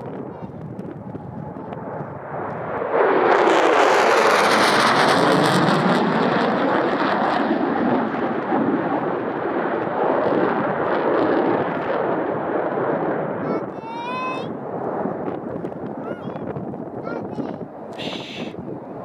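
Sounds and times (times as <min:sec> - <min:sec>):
fighter jet passing overhead: 0:00.0 - 0:19.0.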